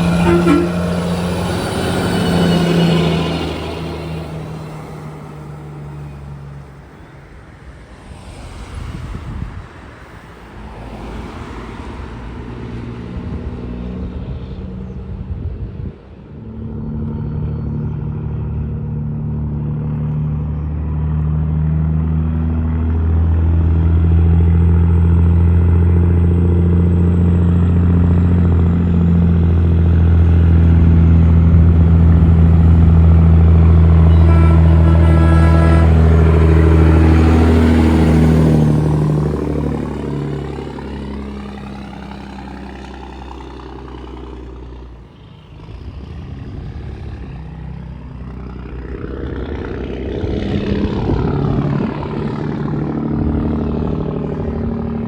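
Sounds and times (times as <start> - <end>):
road vehicles passing: 0.0 - 55.0
vehicle engine low drone: 0.0 - 55.0.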